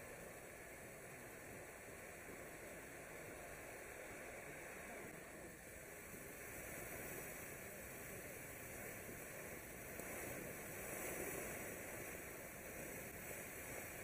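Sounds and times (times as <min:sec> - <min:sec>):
firework fountain hissing: 0:00.0 - 0:14.0.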